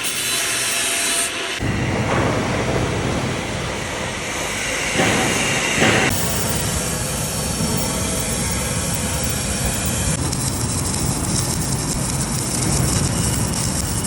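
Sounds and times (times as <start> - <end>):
industrial machinery din: 1.3 - 14.0.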